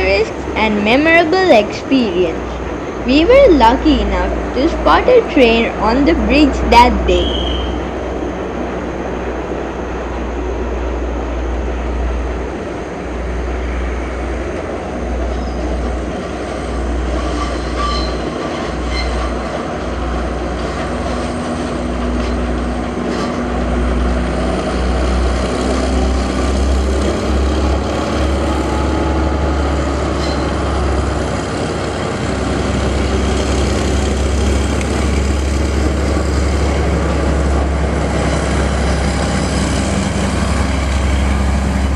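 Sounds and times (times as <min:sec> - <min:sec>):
train rumbling: 0:00.0 - 0:41.9.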